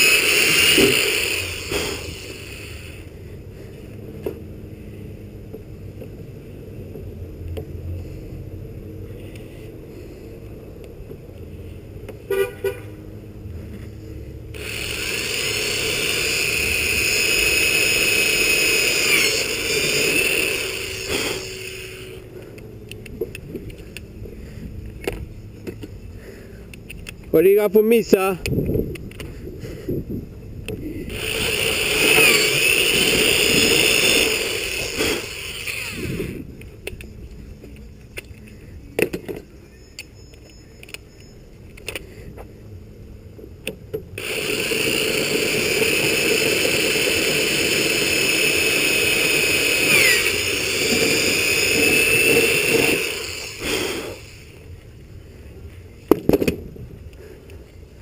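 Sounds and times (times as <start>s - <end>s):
vehicles running with high whine: 0.0s - 58.0s.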